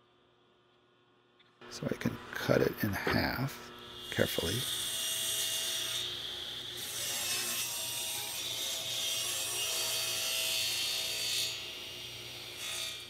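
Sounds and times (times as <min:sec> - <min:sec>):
table saw cutting wood: 0:02.0 - 0:13.0.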